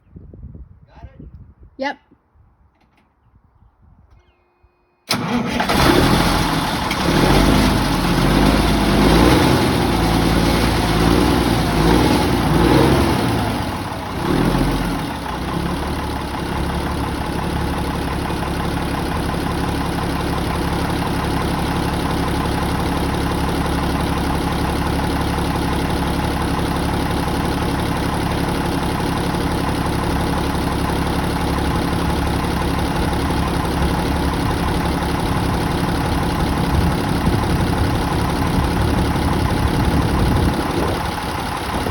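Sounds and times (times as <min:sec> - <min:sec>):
diesel engine starting and idling: 0:05.1 - 0:41.9.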